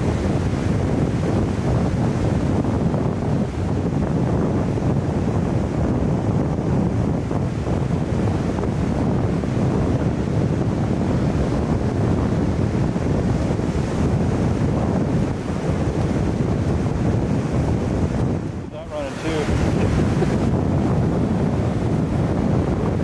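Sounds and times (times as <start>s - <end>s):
rushing water roar: 0.0s - 23.0s
wind buffeting microphone: 0.0s - 23.0s.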